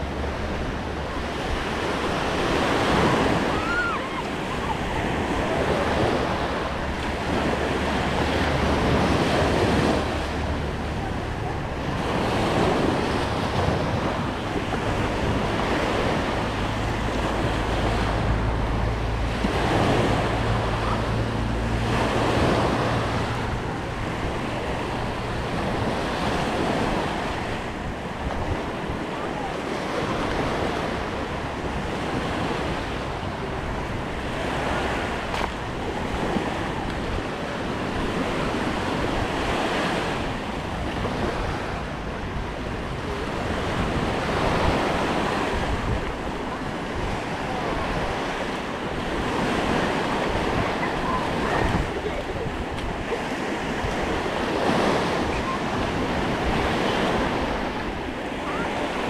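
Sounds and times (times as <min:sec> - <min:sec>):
small waves breaking on shore: 0:00.0 - 0:59.0
wind buffeting microphone: 0:00.0 - 0:59.0.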